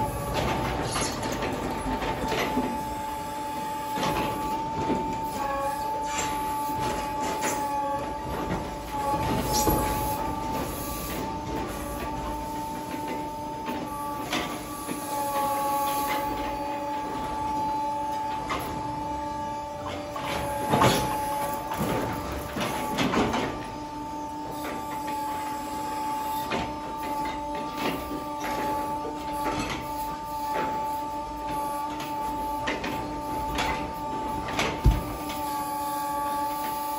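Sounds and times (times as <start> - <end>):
machine engine and hydraulics whine: 0.0 - 36.9.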